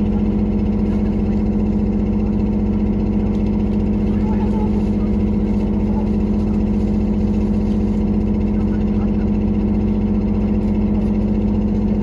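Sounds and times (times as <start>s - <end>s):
train diesel engine drone: 0.0s - 12.0s.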